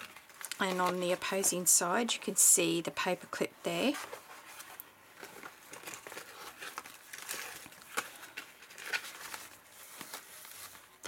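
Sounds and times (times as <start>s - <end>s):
paper and card rustling: 0.0s - 1.8s, 3.7s - 11.0s.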